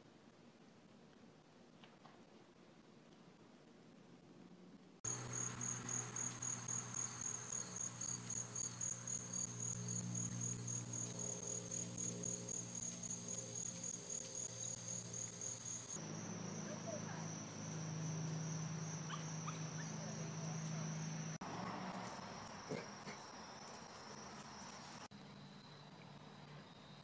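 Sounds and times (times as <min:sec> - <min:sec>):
insect chirping: 0:05.0 - 0:27.0.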